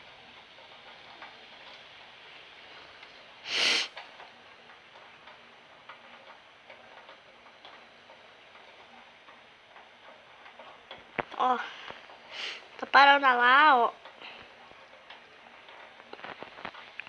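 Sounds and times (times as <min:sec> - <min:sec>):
rain falling and dripping: 0:00.0 - 0:17.0.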